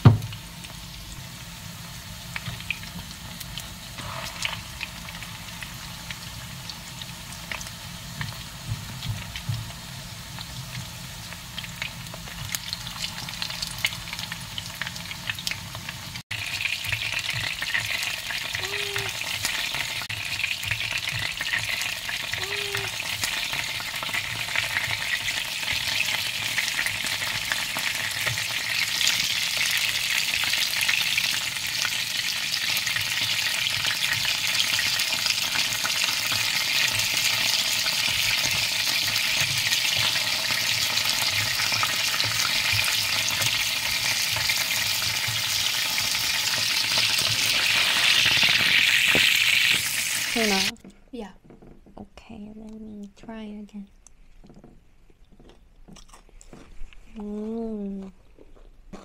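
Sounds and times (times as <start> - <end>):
chicken sizzling in hot oil: 0.0 - 50.8.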